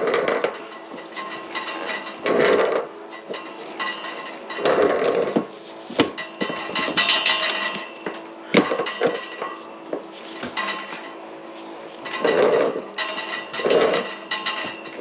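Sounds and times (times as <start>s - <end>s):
metal tools clanking: 0.0s - 9.7s, 10.3s - 11.2s, 11.9s - 15.0s.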